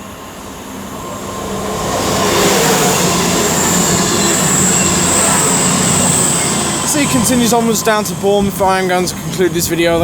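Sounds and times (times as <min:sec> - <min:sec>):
high whine: 0:00.0 - 0:10.0
low hum: 0:00.0 - 0:10.0
train passing through station: 0:00.0 - 0:10.0.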